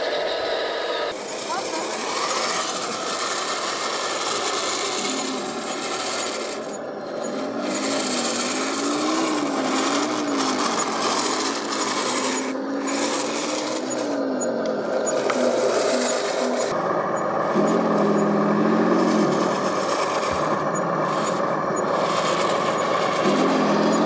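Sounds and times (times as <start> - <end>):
model tank gearboxes grinding: 0.0 - 24.0
motor whine: 0.0 - 24.0.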